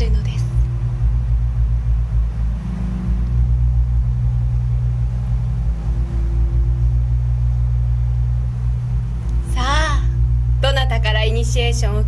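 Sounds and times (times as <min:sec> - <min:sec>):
higher synth tone: 0:00.0 - 0:12.0
low synthesized drone: 0:00.0 - 0:12.0.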